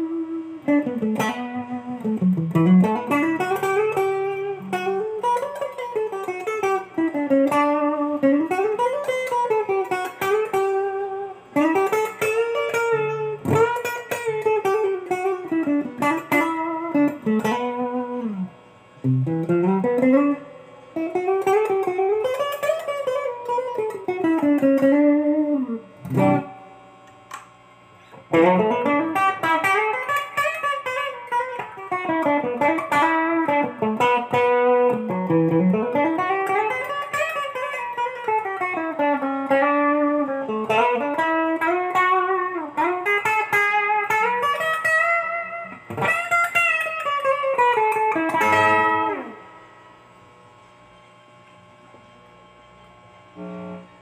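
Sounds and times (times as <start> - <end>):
electric guitar lead line: 0.0 - 54.0.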